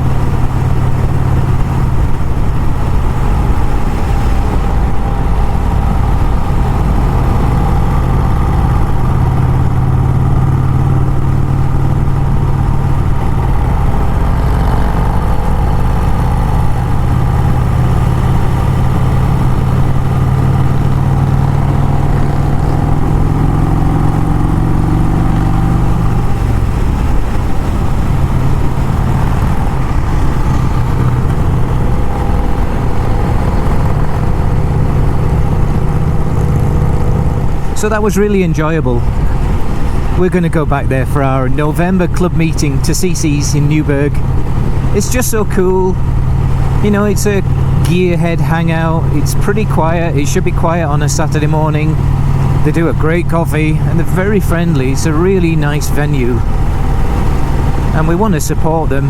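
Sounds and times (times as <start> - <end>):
motorcycle engine droning: 0.0 - 59.0.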